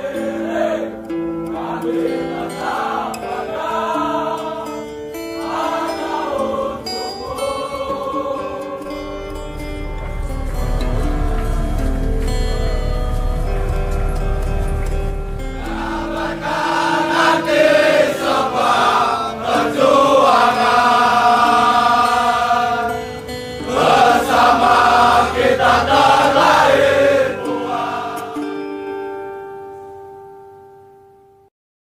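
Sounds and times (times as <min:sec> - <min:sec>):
choir singing over sustained notes: 0:00.0 - 0:29.9.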